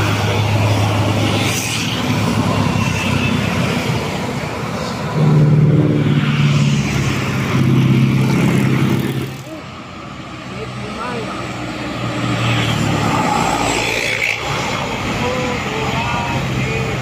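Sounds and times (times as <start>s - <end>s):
buses and trucks climbing a hill: 0.0s - 17.0s.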